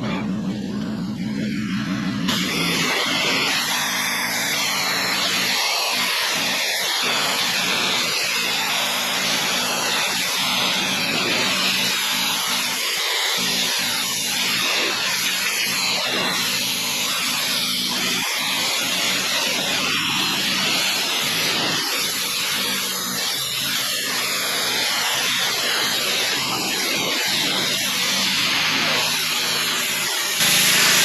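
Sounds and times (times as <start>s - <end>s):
pressure washer engine running: 0.0s - 31.0s.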